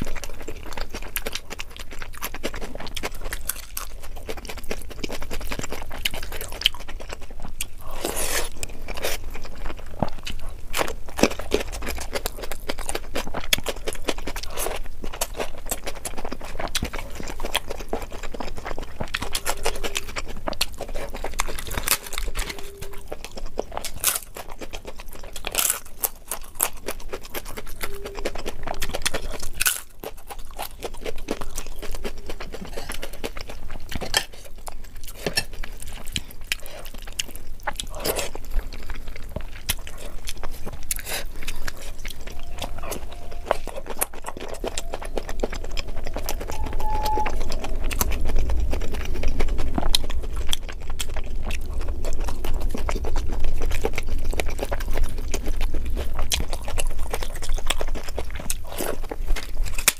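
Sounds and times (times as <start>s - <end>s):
chewing: 0.0s - 59.9s
crunching: 0.0s - 59.9s.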